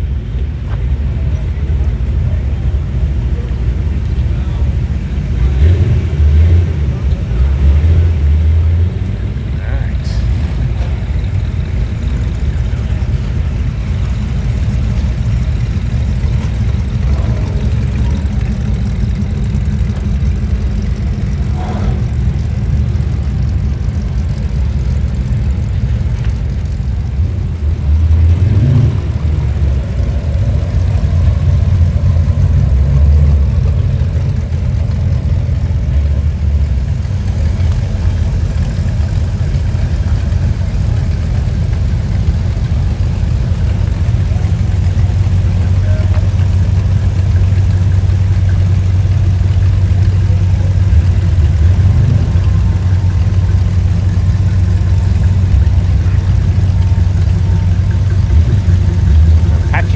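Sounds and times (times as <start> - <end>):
hot rod engines rumbling: 0.0 - 59.9.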